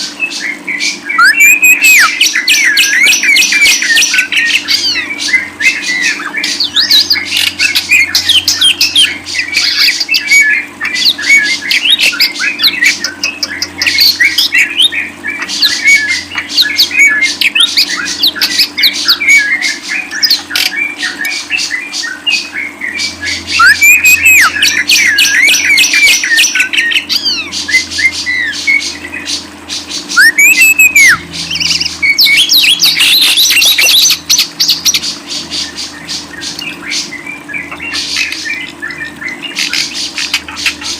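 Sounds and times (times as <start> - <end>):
songbird chattering song: 0.0 - 40.9.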